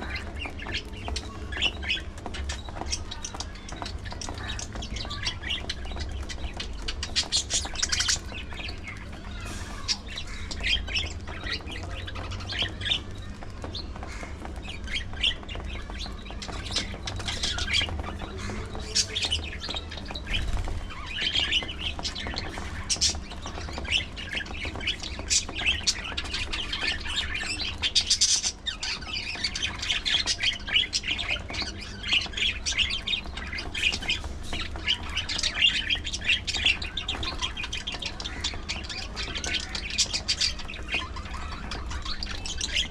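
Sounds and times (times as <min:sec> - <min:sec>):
budgerigars chattering and squawking: 0:00.0 - 0:42.9.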